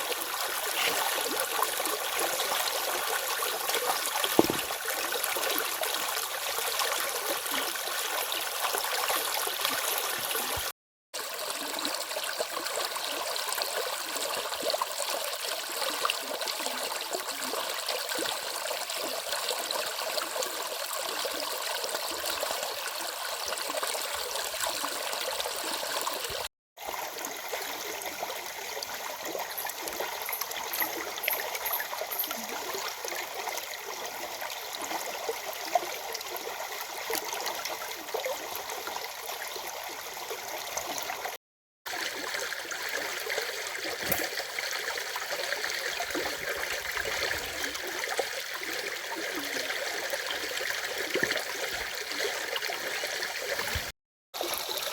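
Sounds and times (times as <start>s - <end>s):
small river babbling: 0.0s - 54.9s.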